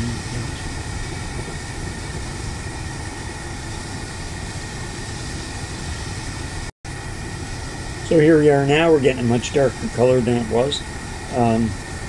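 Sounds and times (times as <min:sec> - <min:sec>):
propane burner rushing: 0:00.0 - 0:12.0
sap boiling in a pot: 0:00.0 - 0:12.0.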